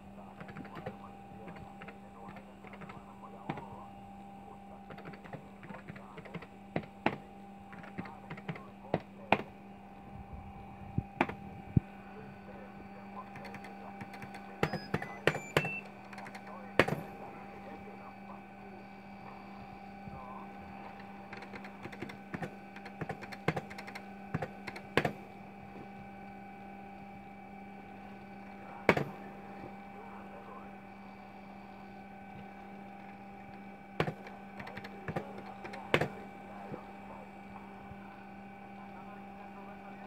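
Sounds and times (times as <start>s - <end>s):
computer hum: 0.0s - 40.0s.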